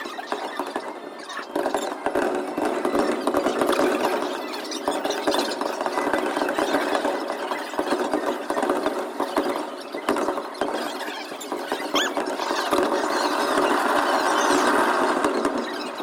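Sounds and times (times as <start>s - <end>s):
fireworks crackling: 0.0s - 16.0s
loud firework cracks: 0.0s - 16.0s.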